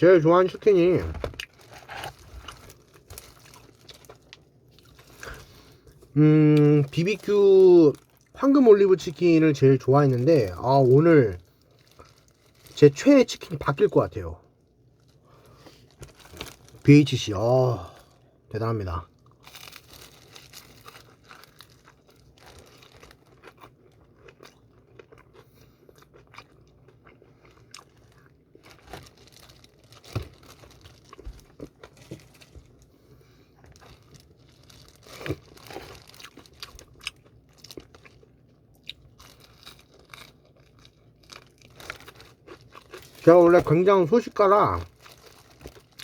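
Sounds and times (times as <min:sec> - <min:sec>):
chewing crunchy fried chicken: 0:00.4 - 0:18.2, 0:19.0 - 0:46.0.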